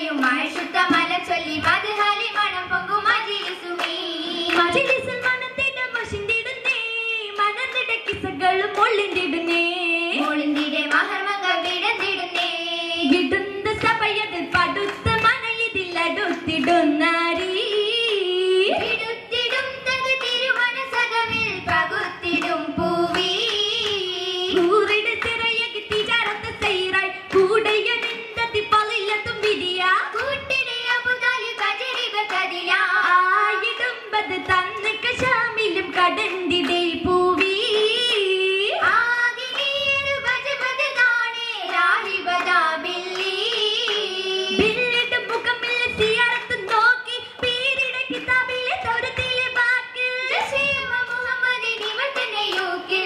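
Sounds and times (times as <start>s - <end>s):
girls singing in unison: 0.0s - 53.0s
rhythmic hand-clapping: 0.0s - 53.0s.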